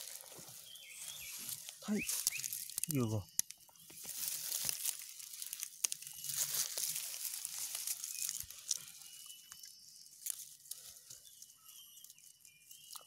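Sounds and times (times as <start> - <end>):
dry grass rustling: 0.0 - 13.0.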